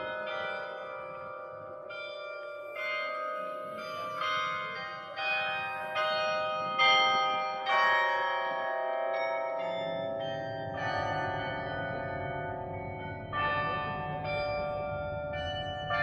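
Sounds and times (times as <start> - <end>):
carillon bells ringing a melody: 0.0 - 16.0.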